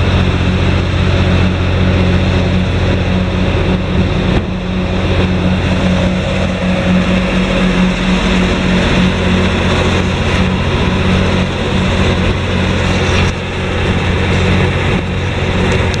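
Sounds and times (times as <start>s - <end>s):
truck diesel engine humming: 0.0s - 16.0s.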